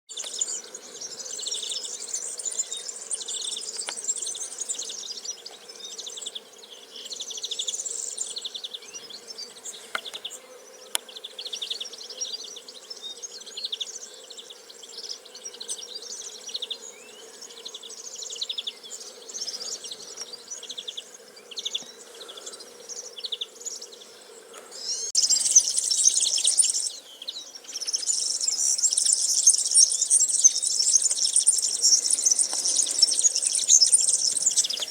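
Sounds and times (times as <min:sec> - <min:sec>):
small birds chirping in trills: 0:00.1 - 0:34.9.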